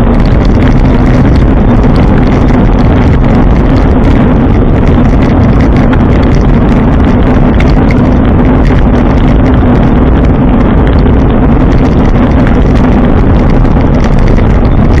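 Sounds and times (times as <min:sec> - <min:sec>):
low hum: 0:00.0 - 0:15.0
road noise: 0:00.0 - 0:15.0
wind rushing on microphone: 0:00.0 - 0:15.0.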